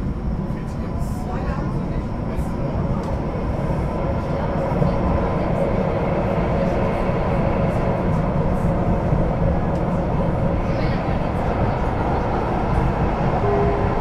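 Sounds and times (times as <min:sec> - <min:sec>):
light-rail car rumbling: 0:00.0 - 0:14.0.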